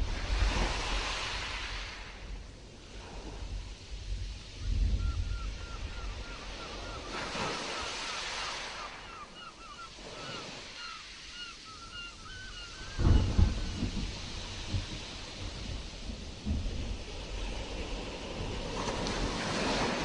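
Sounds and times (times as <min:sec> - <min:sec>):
stormy sea waves breaking: 0:00.0 - 0:20.0.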